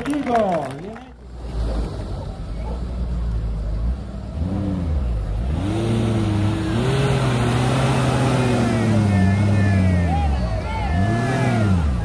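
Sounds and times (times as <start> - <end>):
off-road vehicle engine revving: 1.2 - 12.0.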